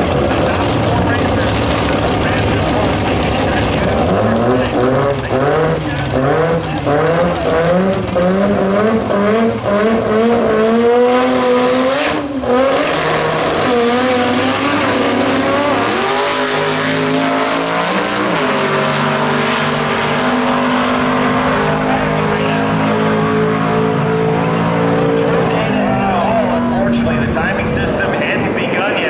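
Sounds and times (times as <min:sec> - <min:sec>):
drag racing engines revving: 0:00.0 - 0:29.0.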